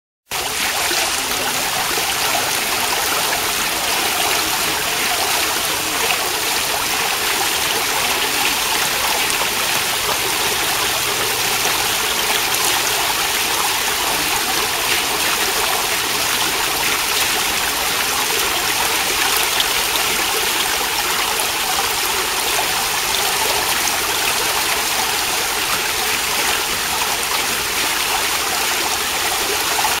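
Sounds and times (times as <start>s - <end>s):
running water rushing: 0.3s - 30.0s.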